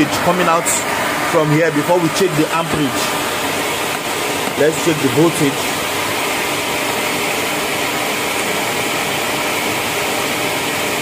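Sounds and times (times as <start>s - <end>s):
electric motor running: 0.0s - 11.0s.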